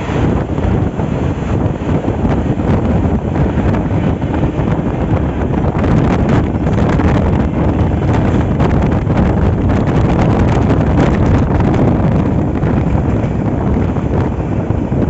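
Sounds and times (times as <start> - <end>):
train rumbling: 0.0 - 15.0
wind buffeting microphone: 0.0 - 15.0.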